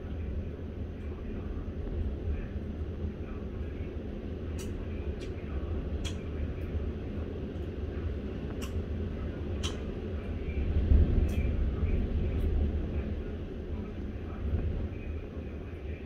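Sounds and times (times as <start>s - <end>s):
wind and surf low rumble: 0.0s - 16.0s.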